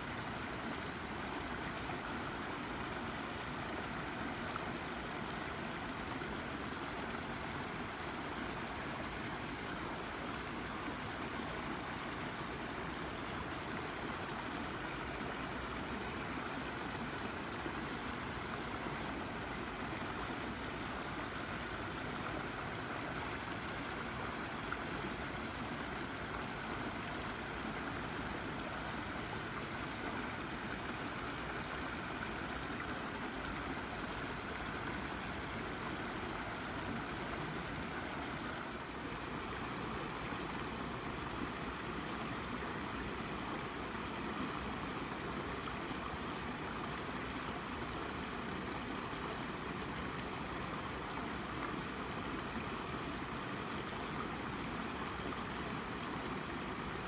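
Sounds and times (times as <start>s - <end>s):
brook babbling over rock: 0.0s - 57.0s.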